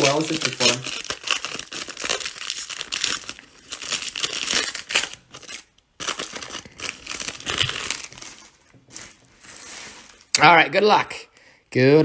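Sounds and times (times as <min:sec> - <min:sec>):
foil card pack crinkling: 0:00.0 - 0:10.3.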